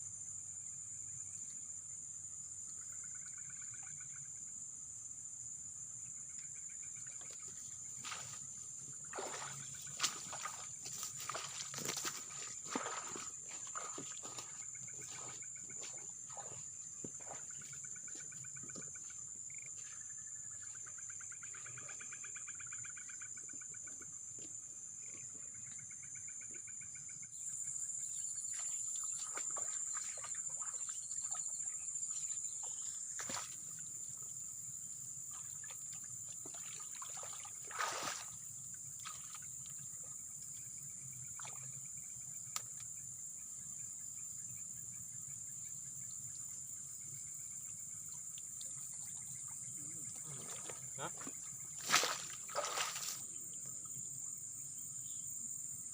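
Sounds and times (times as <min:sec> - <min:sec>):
crickets and insects chorus: 0:00.0 - 0:55.9.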